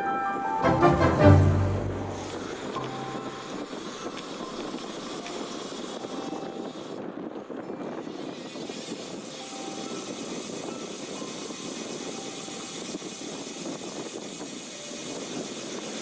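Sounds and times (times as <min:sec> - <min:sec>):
wind rushing: 0:00.6 - 0:14.5
bicycle road noise: 0:01.8 - 0:16.0.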